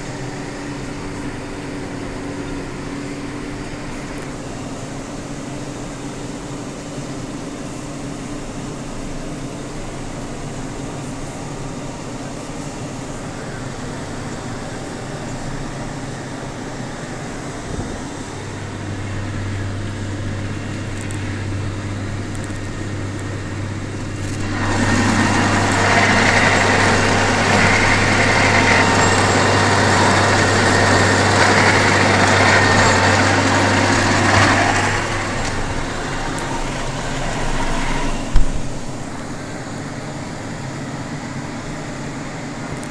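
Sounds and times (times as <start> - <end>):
power harrow working soil: 0.0 - 42.9
tractor diesel engine drone: 0.0 - 42.9.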